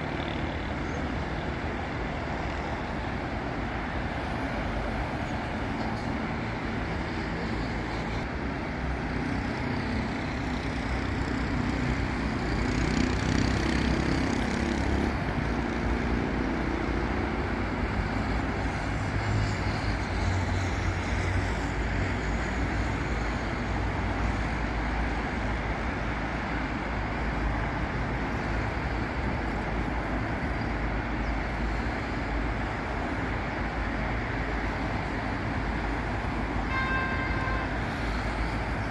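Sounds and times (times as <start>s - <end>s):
heavy vehicles passing: 0.0s - 38.9s
road traffic passing: 0.0s - 38.9s.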